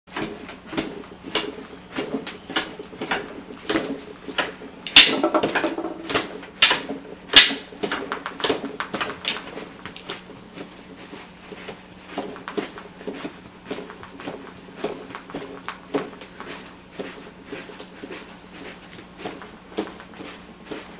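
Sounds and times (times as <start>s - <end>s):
dog paws scratching and scuffing: 0.2s - 20.9s.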